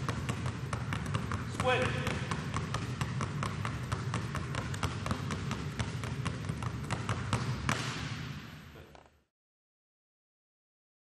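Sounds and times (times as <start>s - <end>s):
basketballs bouncing on hardwood floor: 0.0s - 9.1s.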